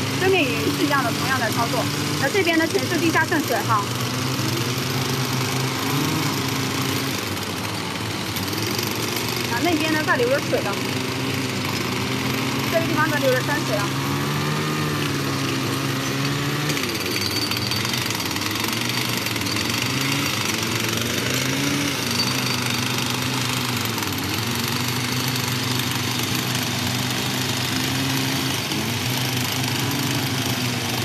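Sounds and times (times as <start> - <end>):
jackhammer engine drone: 0.0 - 31.0
jackhammer hammering rattle: 0.0 - 31.0.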